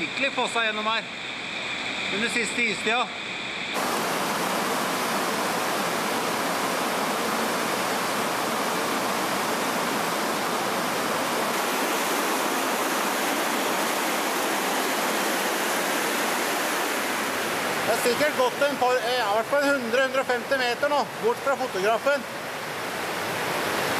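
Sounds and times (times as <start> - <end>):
underground stream rushing: 0.0 - 23.9.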